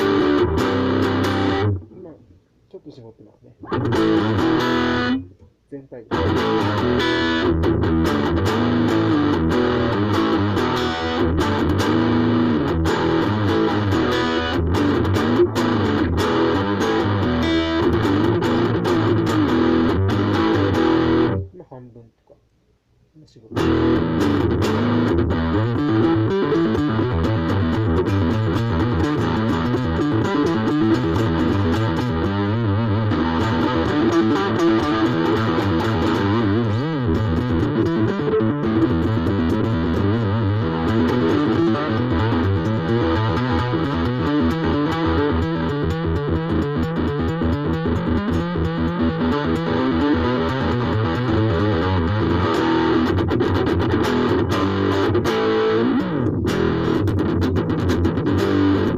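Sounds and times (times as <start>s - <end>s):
distorted electric guitar: 0.0s - 2.2s, 3.5s - 21.6s, 23.5s - 58.9s.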